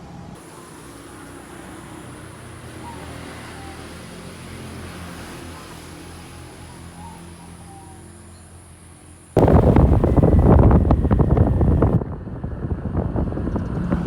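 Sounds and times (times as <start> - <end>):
moving vehicle rumble and road noise: 0.0 - 14.0.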